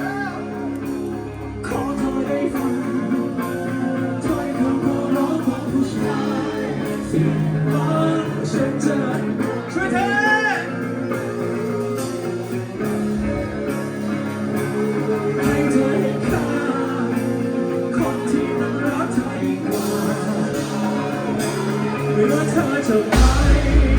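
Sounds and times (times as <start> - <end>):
guitars: 0.0 - 23.9
person singing: 0.0 - 23.9.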